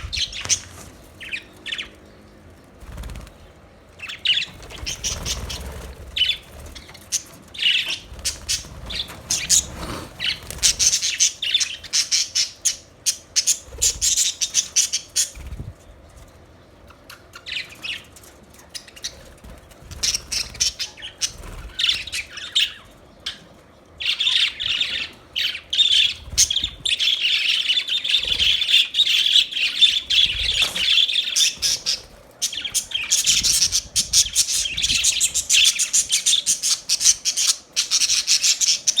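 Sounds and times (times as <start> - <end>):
budgerigars chirping: 0.0 - 2.0, 4.0 - 15.6, 16.9 - 18.1, 18.8 - 23.4, 24.0 - 39.0.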